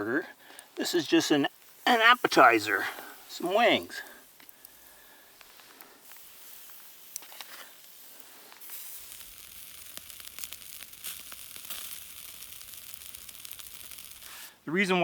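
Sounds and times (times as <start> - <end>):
chicken wings sizzling on a grill: 0.0 - 14.6.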